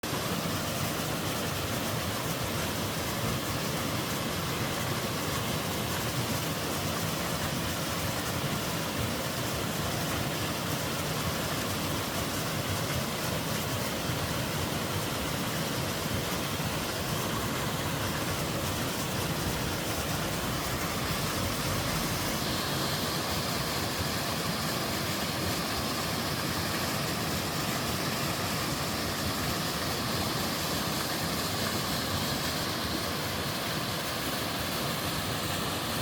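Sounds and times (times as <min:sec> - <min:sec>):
waterfall roar: 0:00.0 - 0:36.0.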